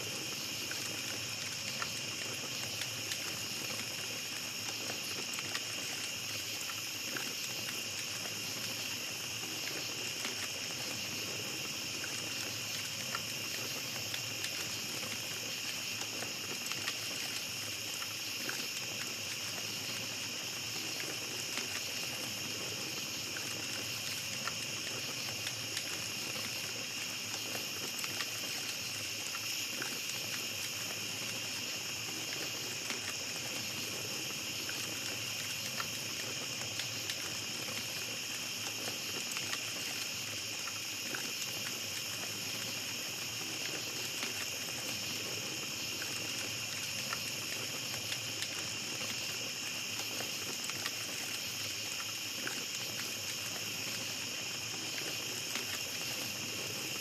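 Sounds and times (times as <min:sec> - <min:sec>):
campfire crackling and popping: 0:00.0 - 0:57.0
night insects chorus: 0:00.0 - 0:57.0.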